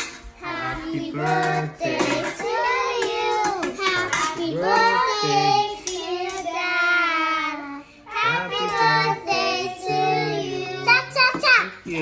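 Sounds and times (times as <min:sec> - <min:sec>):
children singing: 0:00.4 - 0:11.1.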